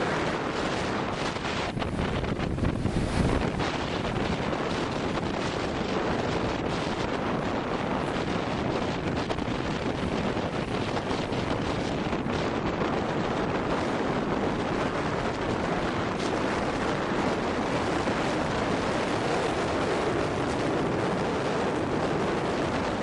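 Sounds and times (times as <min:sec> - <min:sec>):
waves breaking on shore: 0:00.0 - 0:23.0
wind buffeting microphone: 0:00.0 - 0:23.0.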